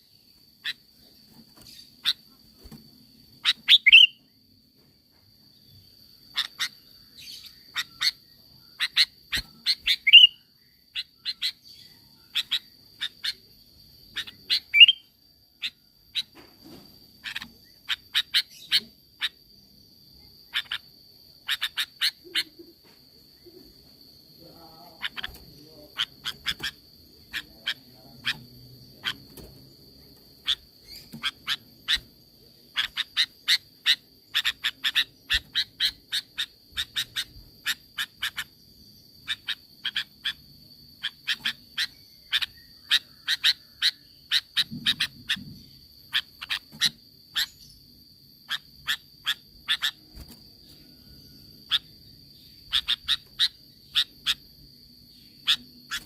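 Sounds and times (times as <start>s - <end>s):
bird chirping: 0.0s - 4.6s, 5.3s - 56.0s.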